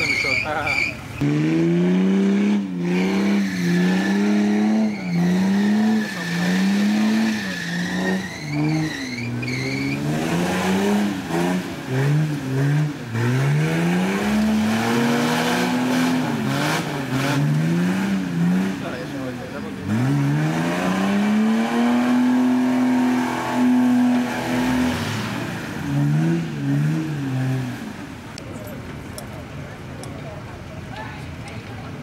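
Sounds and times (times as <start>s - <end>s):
engine revving: 0.0s - 28.1s.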